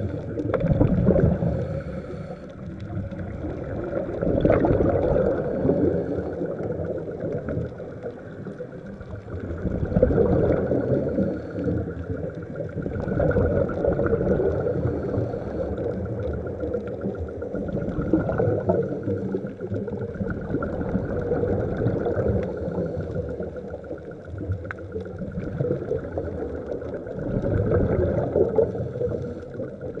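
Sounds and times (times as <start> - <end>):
diver's regulator exhaust bubbles: 0.0 - 30.0
low underwater drone: 0.0 - 30.0.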